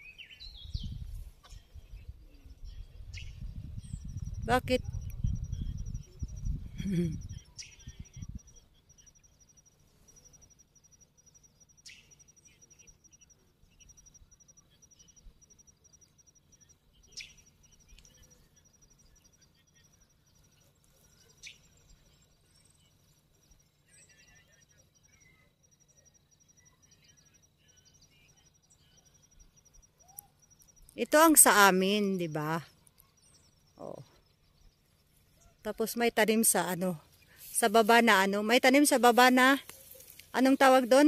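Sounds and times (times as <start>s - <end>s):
insects chirping: 3.6s - 41.0s.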